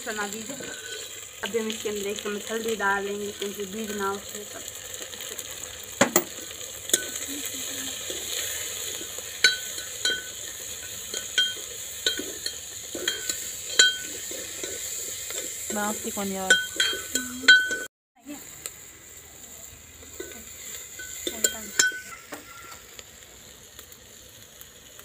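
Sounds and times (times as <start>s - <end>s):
chillies sizzling in a pot: 0.0s - 25.0s.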